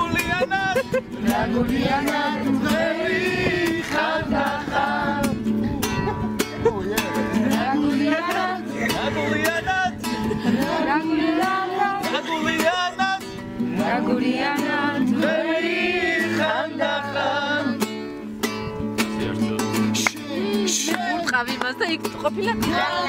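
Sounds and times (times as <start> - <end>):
acoustic guitar: 0.0 - 23.0.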